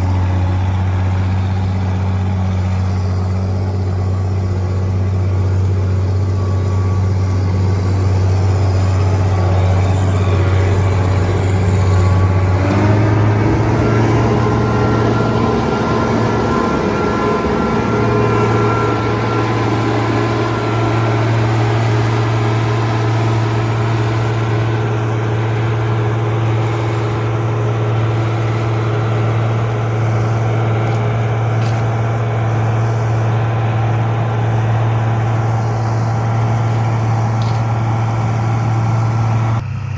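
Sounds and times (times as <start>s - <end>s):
high whining tones: 0.0s - 39.6s
farm machinery engine running: 0.0s - 39.9s.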